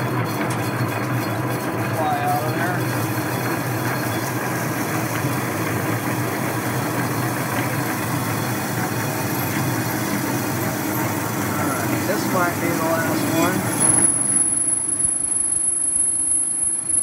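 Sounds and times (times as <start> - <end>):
metal lathe cutting steel: 0.0 - 17.0.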